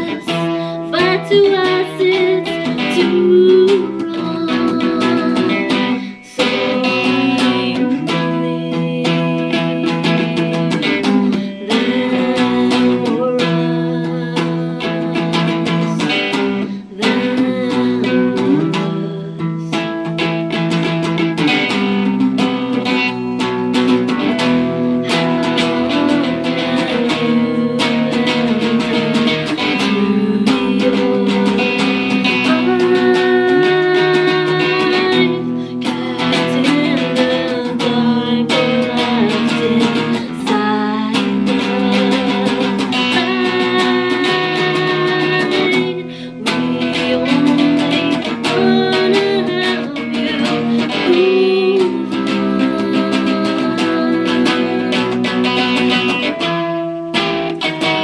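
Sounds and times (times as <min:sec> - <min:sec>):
electric guitar strummed: 0:00.0 - 0:58.0
person singing: 0:00.0 - 0:58.0.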